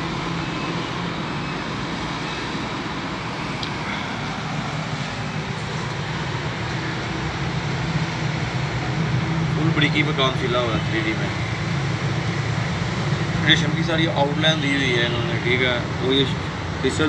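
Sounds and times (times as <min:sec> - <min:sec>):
machinery hum and drone: 0:00.0 - 0:17.0.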